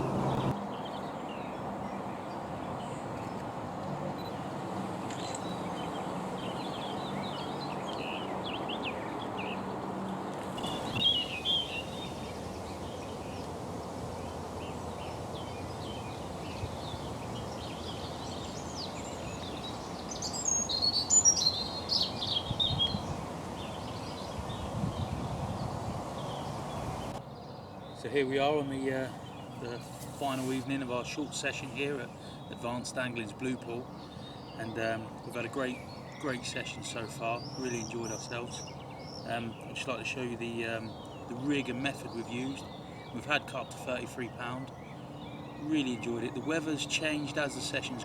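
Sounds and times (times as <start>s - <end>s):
small birds chirping and singing: 5.0s - 48.0s.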